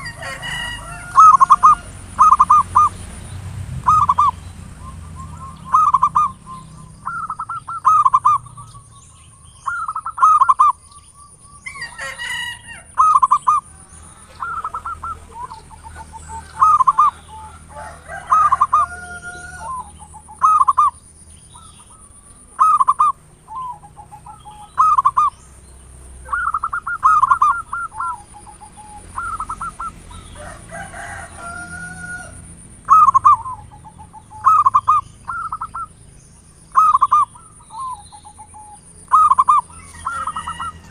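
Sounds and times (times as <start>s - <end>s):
bird calls: 0.0s - 40.9s
doves cooing: 0.0s - 40.9s.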